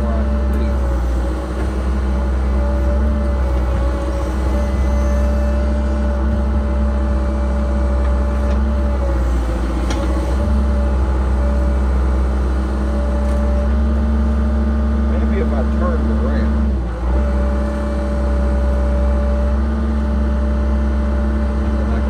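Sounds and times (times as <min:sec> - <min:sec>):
excavator diesel engine whining: 0:00.0 - 0:22.0.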